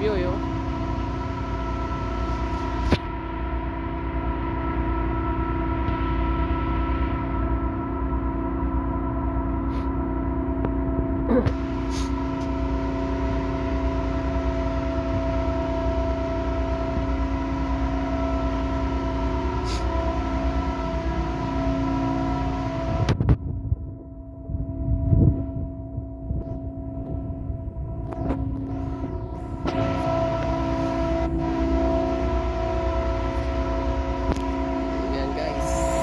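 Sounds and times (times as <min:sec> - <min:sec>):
ship engines humming: 0:00.0 - 0:25.0, 0:25.6 - 0:36.0.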